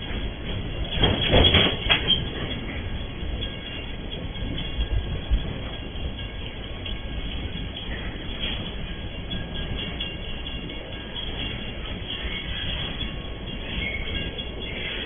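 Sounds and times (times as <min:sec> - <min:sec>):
freight wagons rolling rumble: 0:00.0 - 0:15.0
wheels clattering over rail joints: 0:00.0 - 0:15.0.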